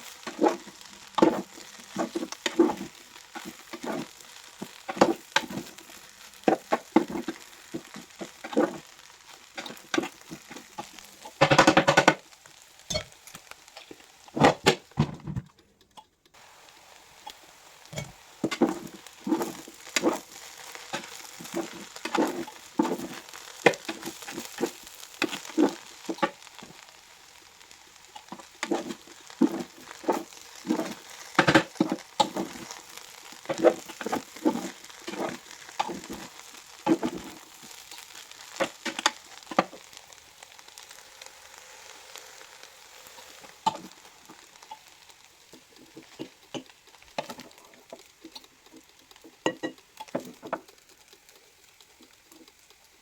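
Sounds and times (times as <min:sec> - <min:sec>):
spatula scraping and knocking pan: 0:00.0 - 0:12.3, 0:12.9 - 0:15.5, 0:17.2 - 0:26.9, 0:28.0 - 0:40.0, 0:43.0 - 0:52.8
rice sizzling in a pan: 0:00.0 - 0:53.0.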